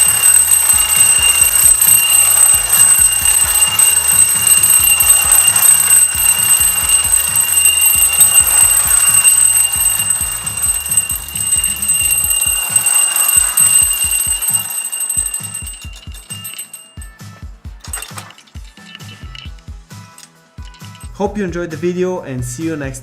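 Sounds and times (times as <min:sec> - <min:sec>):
wind-up toy bell ringing: 0:00.0 - 0:21.1.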